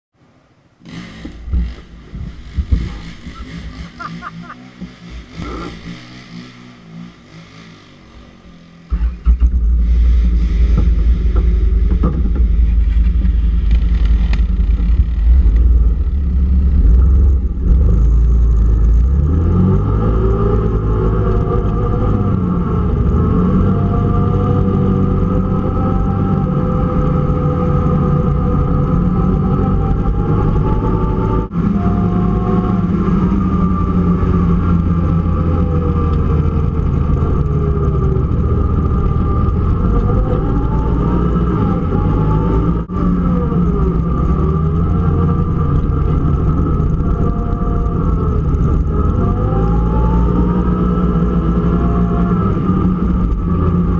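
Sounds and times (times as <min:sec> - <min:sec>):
quad bike engine revving: 0:00.8 - 0:53.9.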